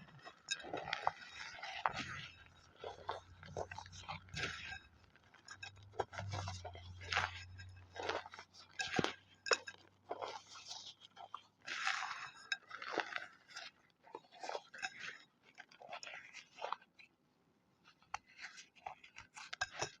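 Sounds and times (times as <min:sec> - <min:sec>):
chalk crunching: 0:00.0 - 0:17.1, 0:17.8 - 0:20.0.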